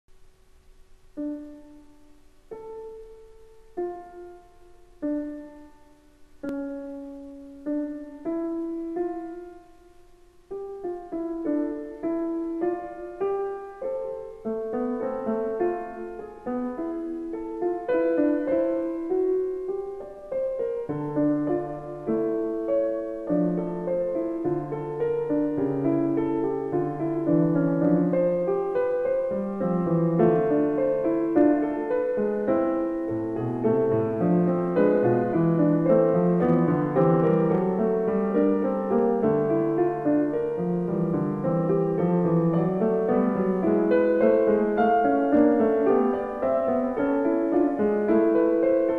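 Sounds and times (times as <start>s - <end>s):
solo piano music: 0.1s - 48.9s.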